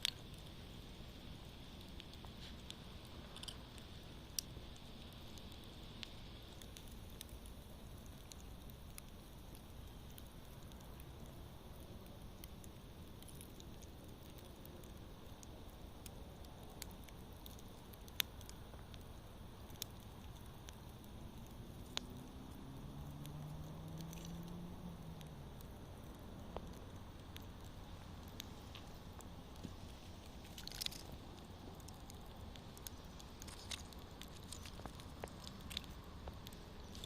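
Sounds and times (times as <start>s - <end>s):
campfire hissing: 0.0s - 37.0s
fire popping and crackling: 0.0s - 37.0s.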